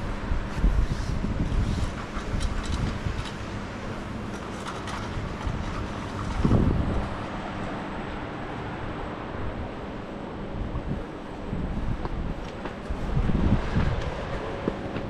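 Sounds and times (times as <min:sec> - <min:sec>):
loud rumble: 0:00.0 - 0:15.0
outdoor ambient noise: 0:00.0 - 0:15.0
wind buffeting microphone: 0:00.0 - 0:15.0.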